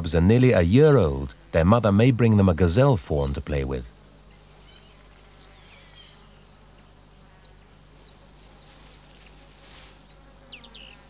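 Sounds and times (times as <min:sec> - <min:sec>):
insect chorus trilling: 0:00.0 - 0:11.0.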